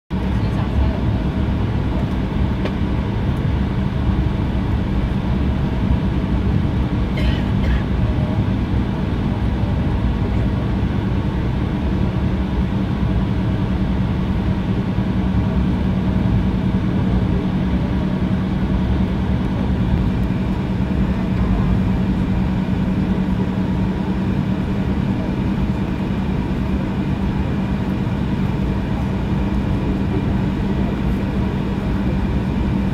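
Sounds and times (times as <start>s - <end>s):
jet engine cabin rumble: 0.1s - 32.9s.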